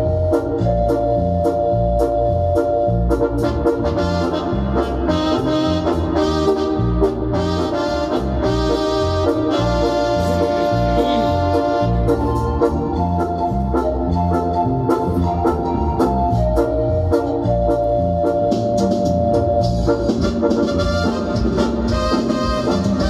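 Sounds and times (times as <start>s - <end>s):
instrumental backing music: 0.0s - 23.0s.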